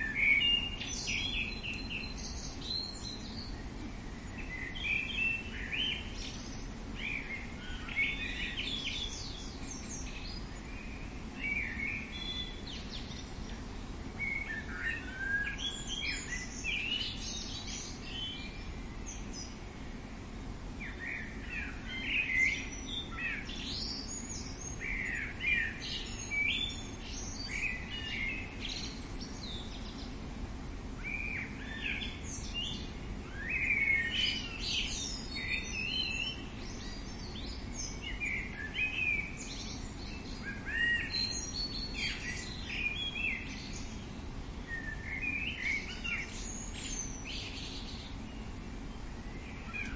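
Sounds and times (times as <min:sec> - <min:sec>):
low background noise: 0:00.0 - 0:49.9
songbirds chirping and trilling: 0:00.0 - 0:49.9.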